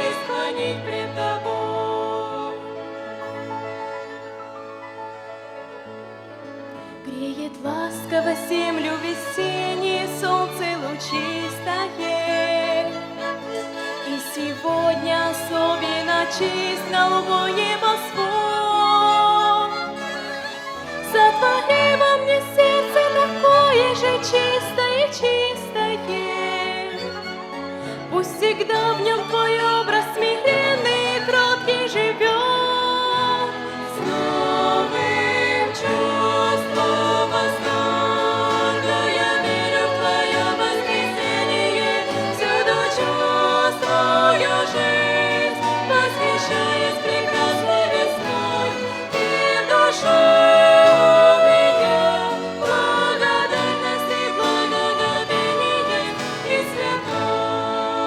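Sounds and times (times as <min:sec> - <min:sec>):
vocal ensemble singing a hymn: 0:00.0 - 0:04.8, 0:06.7 - 0:58.0
instrumental backing: 0:00.0 - 0:58.0
violin: 0:00.0 - 0:58.0.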